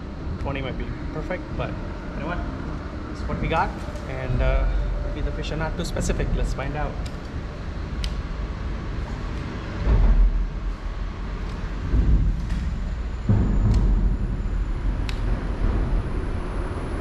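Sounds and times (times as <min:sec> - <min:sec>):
traffic rumbling over bridge: 0:00.0 - 0:17.0.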